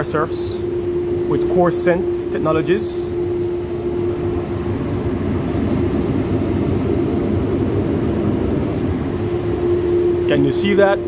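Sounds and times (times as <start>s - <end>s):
air conditioner compressor rumble: 0.0s - 11.0s.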